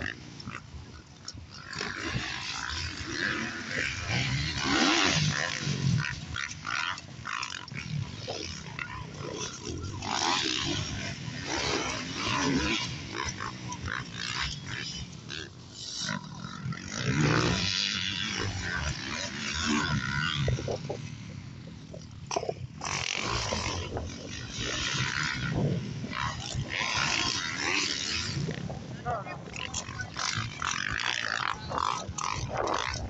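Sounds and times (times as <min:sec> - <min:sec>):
motocross bikes revving past: 0:00.0 - 0:33.0.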